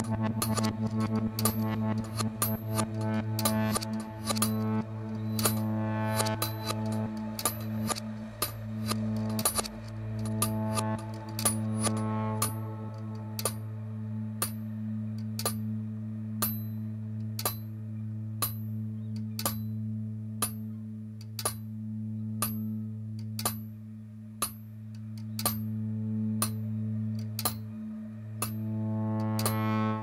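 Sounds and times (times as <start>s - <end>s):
low musical drone: 0.0s - 30.0s.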